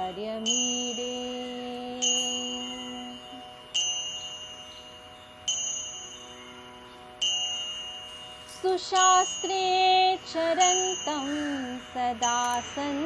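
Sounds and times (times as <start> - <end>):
bell-like chime: 0.0 - 13.0.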